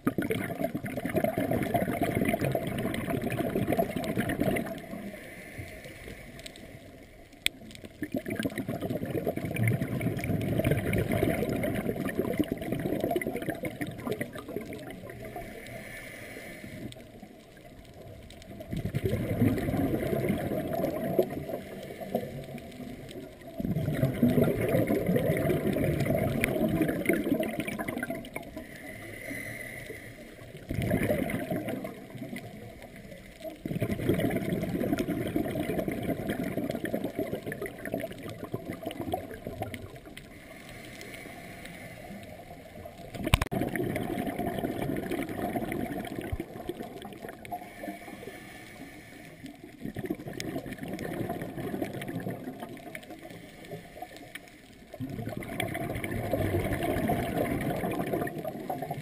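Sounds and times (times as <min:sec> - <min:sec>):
underwater breath bubbling: 0:00.0 - 0:59.0.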